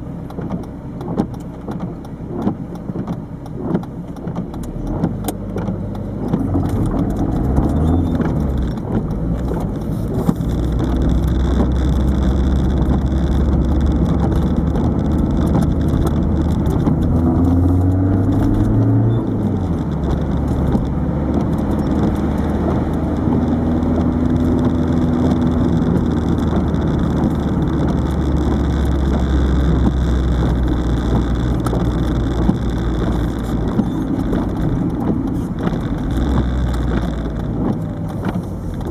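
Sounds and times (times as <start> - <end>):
diesel engine: 0.0 - 38.9
road noise inside car: 0.0 - 38.9
camera rattling: 0.4 - 38.9.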